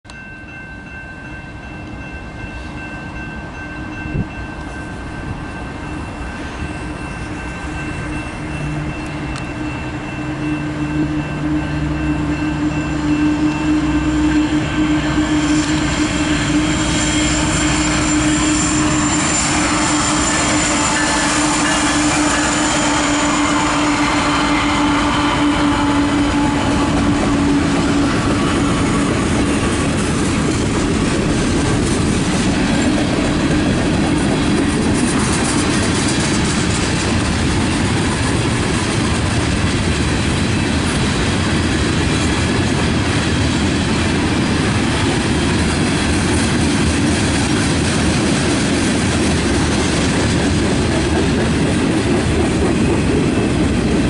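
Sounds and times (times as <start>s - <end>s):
diesel locomotive engine: 0.1s - 54.0s
freight cars rolling on track: 4.1s - 54.0s.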